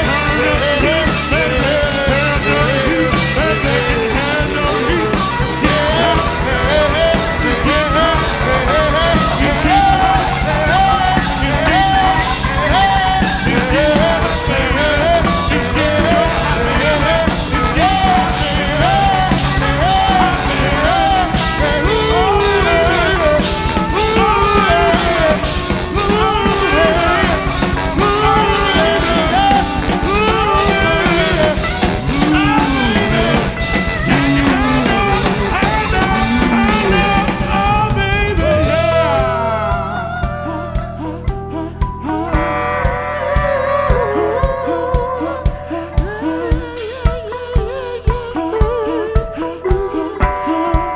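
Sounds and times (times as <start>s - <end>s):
live rock and roll band: 0.0s - 50.9s.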